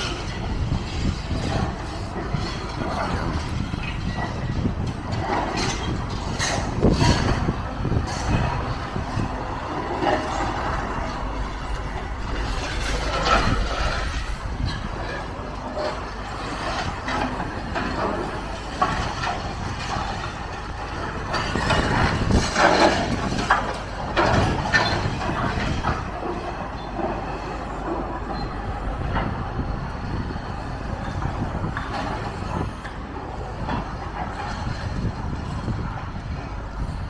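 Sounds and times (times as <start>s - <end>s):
demolition machinery engine: 0.0s - 37.0s.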